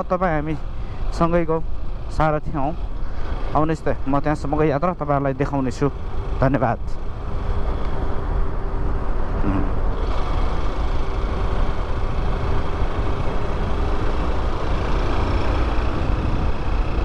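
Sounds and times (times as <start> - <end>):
motorcycle engine hum: 0.0 - 17.0.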